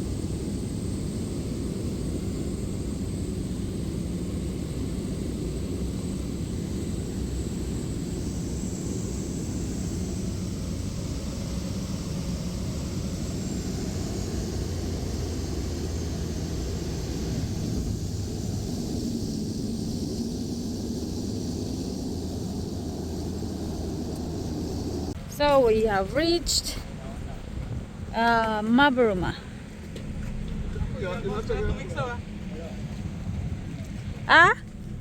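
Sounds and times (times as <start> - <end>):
propeller aircraft engine drone: 0.0 - 35.0.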